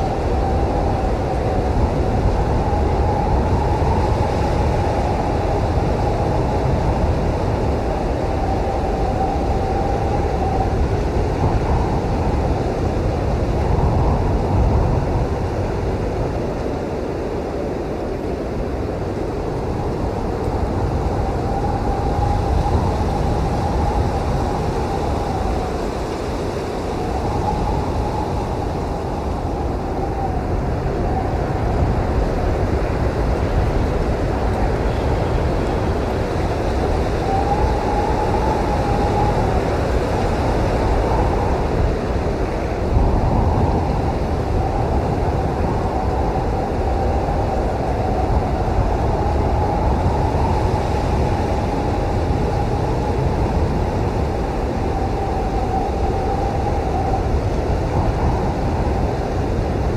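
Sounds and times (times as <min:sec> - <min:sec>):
faint whistling howl: 0:00.0 - 0:13.2, 0:19.3 - 0:59.9
blizzard wind rumbling: 0:00.0 - 0:59.9.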